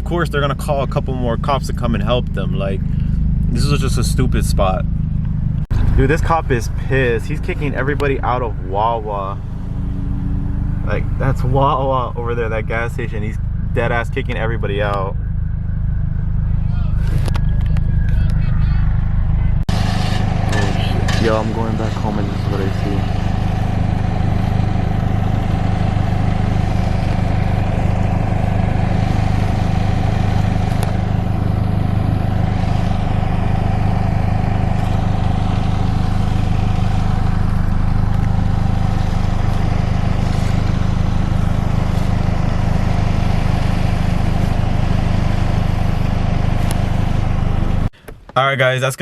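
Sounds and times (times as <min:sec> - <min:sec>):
vehicle engine droning: 0:00.0 - 0:48.6.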